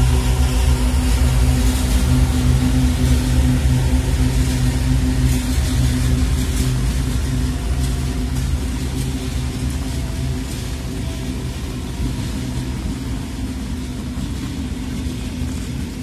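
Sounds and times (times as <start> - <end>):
diesel locomotives passing: 0.0 - 16.0.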